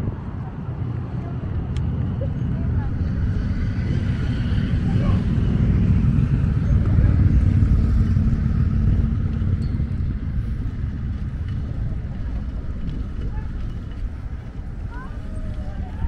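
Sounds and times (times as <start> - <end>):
traffic rumble: 0.0 - 16.0
wind on microphone: 0.0 - 16.0
car passing: 0.7 - 16.0.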